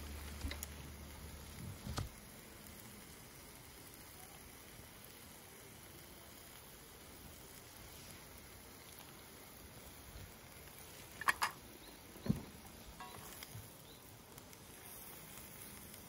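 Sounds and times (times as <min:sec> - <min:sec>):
meat sizzling in a skillet: 0:00.0 - 0:16.0.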